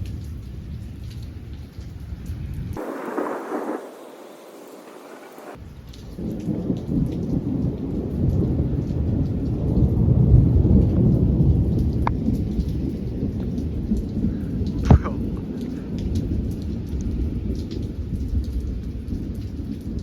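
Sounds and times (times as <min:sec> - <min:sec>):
rain falling: 0:00.0 - 0:20.0
thunder rumbling: 0:02.8 - 0:05.6, 0:06.2 - 0:20.0.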